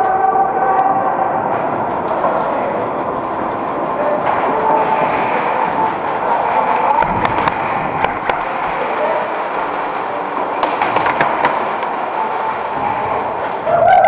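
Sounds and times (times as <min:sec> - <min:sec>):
distant voices: 0:00.0 - 0:14.0
echoing hall din: 0:00.0 - 0:14.0.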